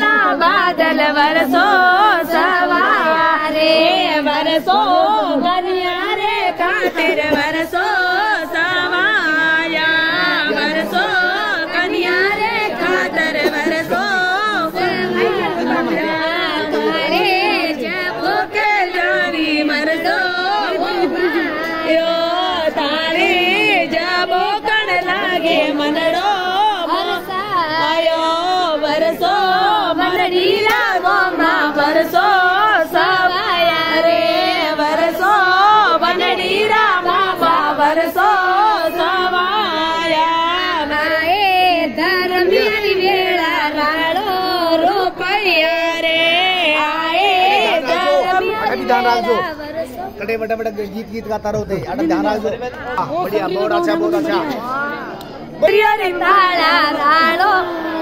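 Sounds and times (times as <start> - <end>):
women singing in chorus: 0.0 - 50.2, 52.9 - 58.0.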